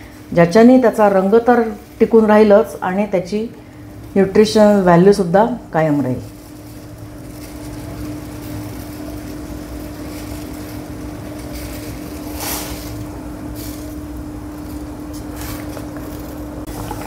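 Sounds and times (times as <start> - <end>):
water boiling in pot: 0.0 - 17.0.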